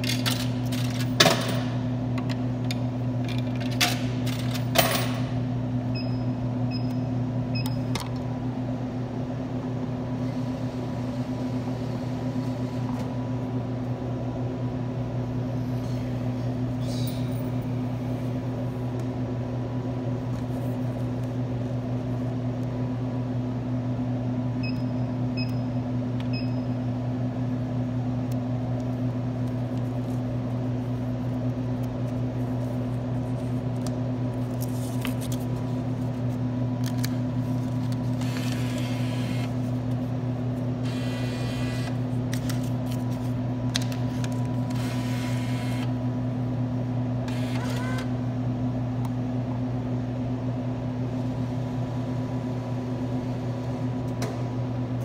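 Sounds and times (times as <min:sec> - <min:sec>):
vending machine hum: 0:00.0 - 0:55.0.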